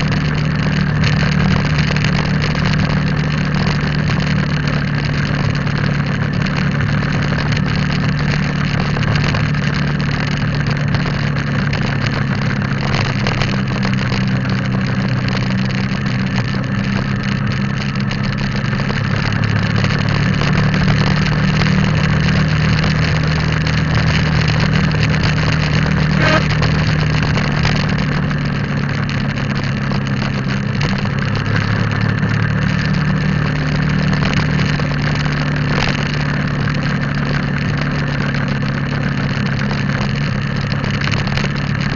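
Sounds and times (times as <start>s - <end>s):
motorcycle engine running: 0.0s - 41.9s
road and wind noise: 0.0s - 41.9s.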